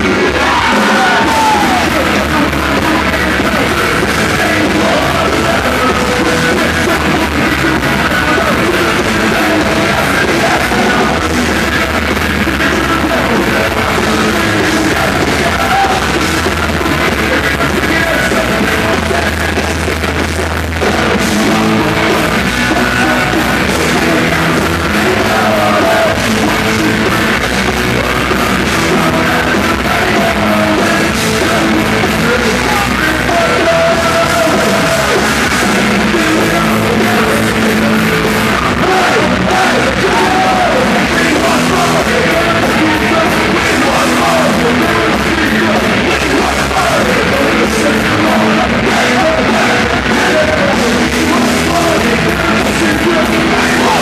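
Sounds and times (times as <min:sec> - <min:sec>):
hard rock band playing: 0:00.0 - 0:54.0
person singing: 0:00.0 - 0:54.0.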